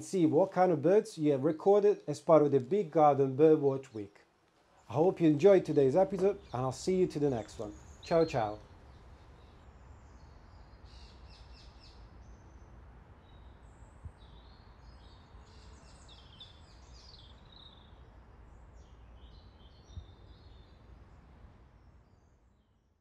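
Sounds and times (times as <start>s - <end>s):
small birds chirping: 3.8s - 22.8s.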